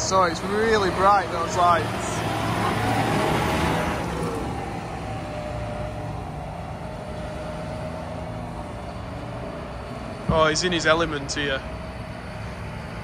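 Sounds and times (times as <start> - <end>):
tractor diesel engine driving off: 0.0 - 13.0.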